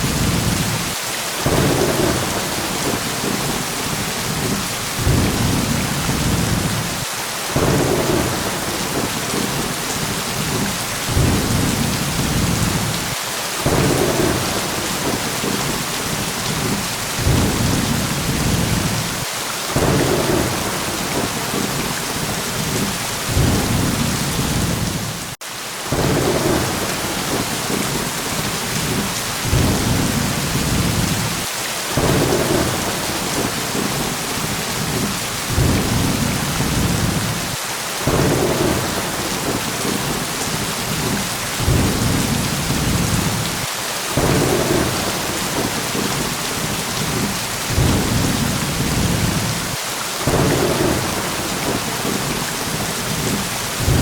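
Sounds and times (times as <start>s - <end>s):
low thunder rumbles: 0.0s - 7.0s, 7.6s - 19.2s, 19.8s - 54.0s
steady rain hissing: 0.0s - 54.0s.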